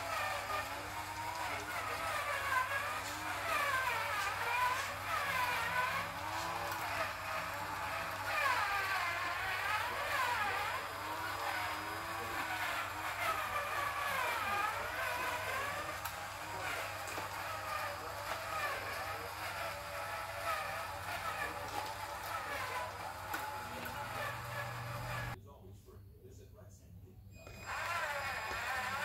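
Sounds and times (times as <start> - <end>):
toy truck motor whining: 0.0 - 25.4, 27.3 - 29.0.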